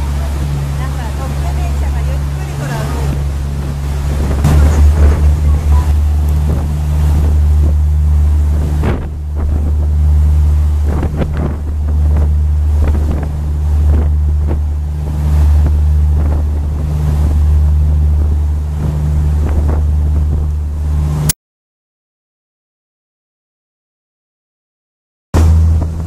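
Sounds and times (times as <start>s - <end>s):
boat engine droning: 0.0s - 21.3s, 25.4s - 26.0s
water churning: 0.0s - 21.3s, 25.4s - 26.0s
wind on microphone: 0.0s - 21.3s, 25.4s - 26.0s.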